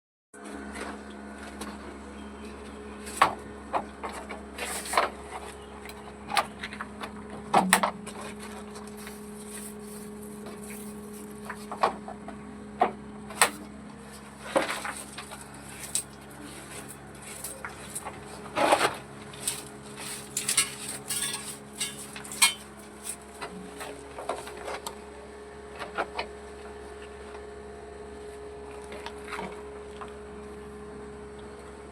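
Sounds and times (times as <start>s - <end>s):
steady hum: 0.4s - 31.9s.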